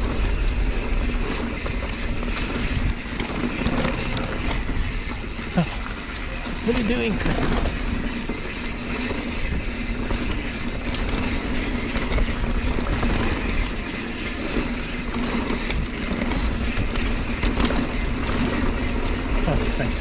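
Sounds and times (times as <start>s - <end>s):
bike rattling: 0.0s - 20.0s
tyres rolling over dirt: 0.0s - 20.0s
wind rushing over microphone: 0.0s - 20.0s.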